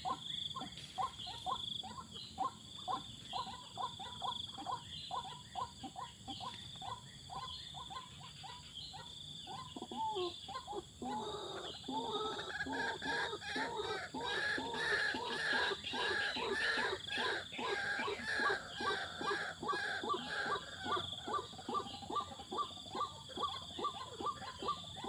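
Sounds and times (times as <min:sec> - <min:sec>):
rapid animal chirps: 0:00.0 - 0:25.0.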